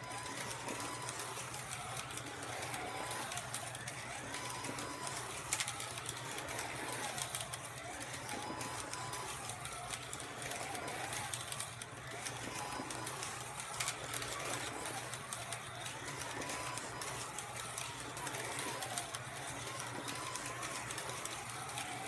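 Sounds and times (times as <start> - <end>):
slot car motors whining: 0.0 - 22.0
track clicks: 0.1 - 22.0.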